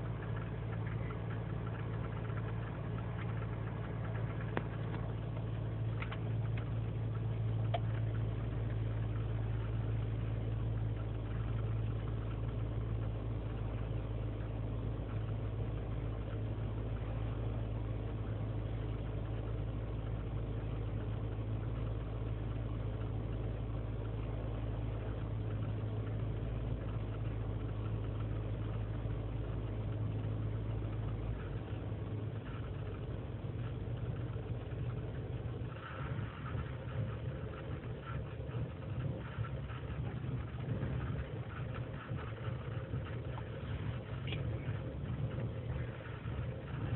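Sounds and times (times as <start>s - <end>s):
rough engine idling: 0.0s - 46.9s.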